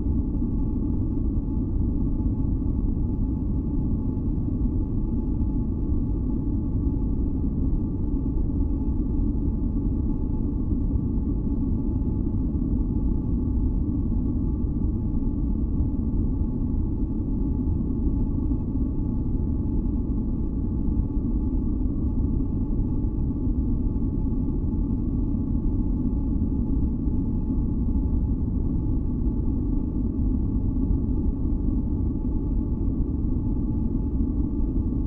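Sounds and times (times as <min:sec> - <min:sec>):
faint humming tones: 0:00.0 - 0:35.0.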